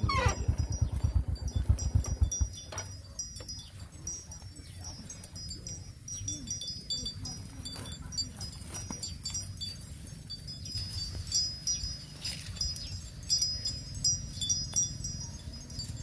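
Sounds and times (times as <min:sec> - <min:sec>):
cow chewing grass: 0:00.0 - 0:16.0.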